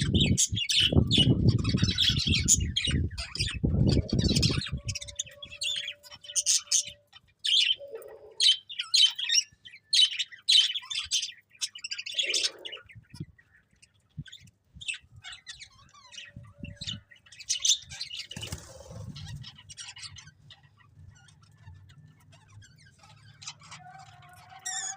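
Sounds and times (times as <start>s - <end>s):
budgerigars chirping: 0.0s - 24.9s.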